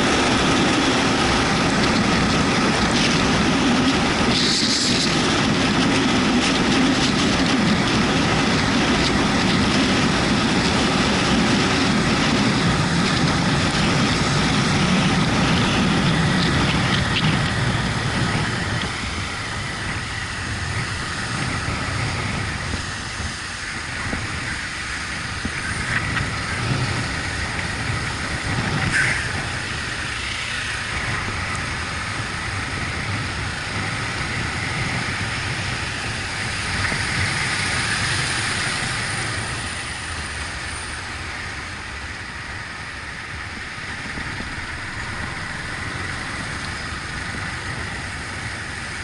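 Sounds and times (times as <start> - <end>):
wind and road noise: 0.0 - 49.0.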